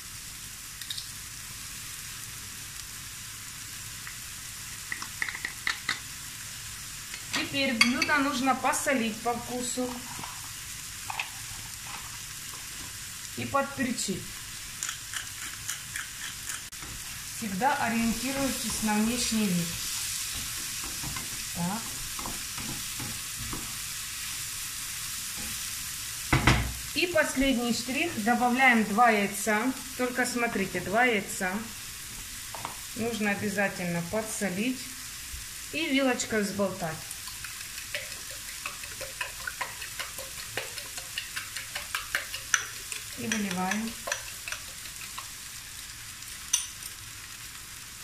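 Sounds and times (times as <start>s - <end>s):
vegetables sizzling in oil: 0.0s - 48.0s.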